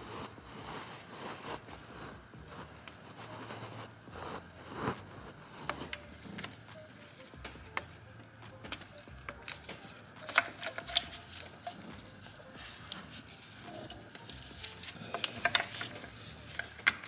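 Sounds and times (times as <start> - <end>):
plastic glove rustle: 0.0 - 8.0, 8.7 - 17.0.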